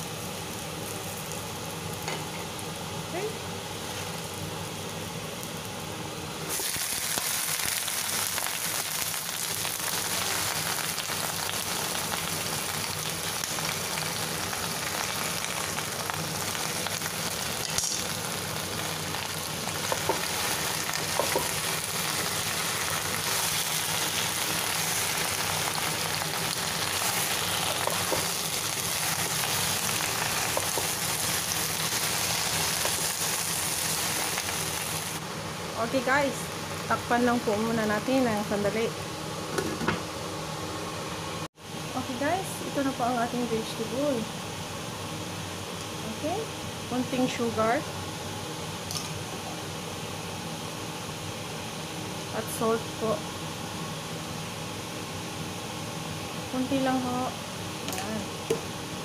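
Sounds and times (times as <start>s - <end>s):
greens sizzling in hot oil: 0.0s - 39.0s, 41.9s - 59.0s.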